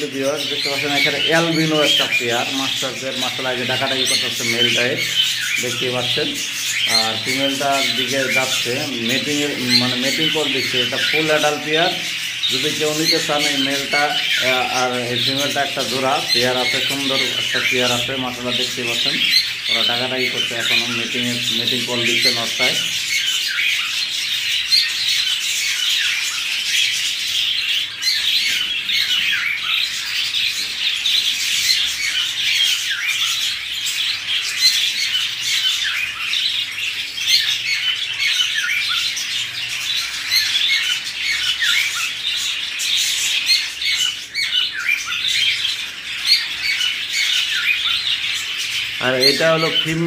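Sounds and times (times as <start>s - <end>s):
birds chirping and squawking: 0.0s - 50.0s.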